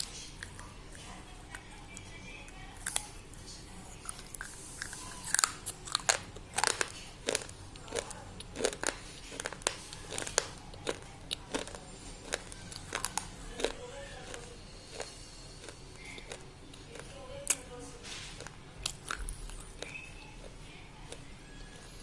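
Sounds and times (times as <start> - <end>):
person crunching slate pencils: 4.0 - 22.0.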